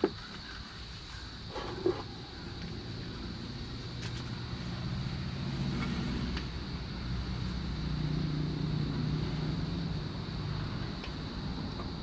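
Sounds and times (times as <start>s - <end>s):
engine droning: 0.4s - 12.0s.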